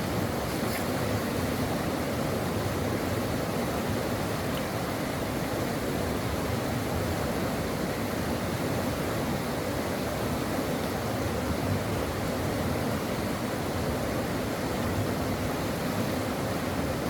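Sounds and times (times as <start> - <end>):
stream water over rocks: 0.0 - 17.0.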